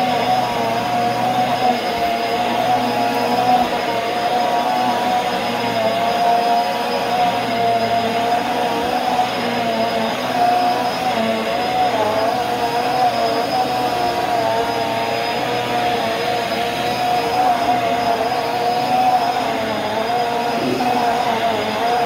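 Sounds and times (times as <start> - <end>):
vacuum cleaner running on carpet: 0.0 - 22.0.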